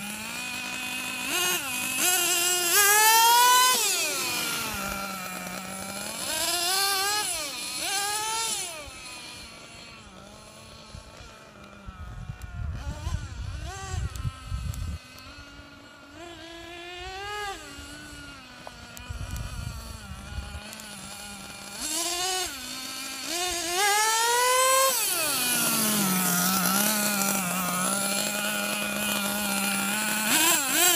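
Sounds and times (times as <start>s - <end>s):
small two-stroke engine revving: 0.0s - 30.9s.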